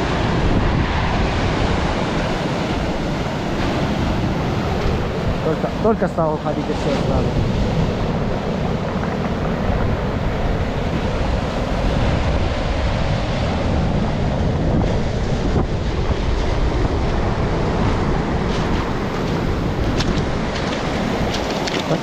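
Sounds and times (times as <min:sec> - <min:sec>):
sea waves breaking on shore: 0:00.0 - 0:22.0
wind buffeting microphone: 0:00.0 - 0:22.0.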